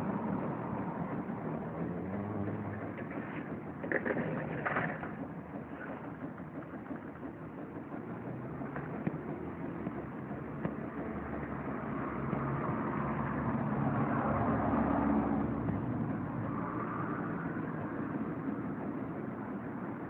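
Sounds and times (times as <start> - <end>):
passing vehicle engine: 0.0 - 7.0, 7.8 - 20.0.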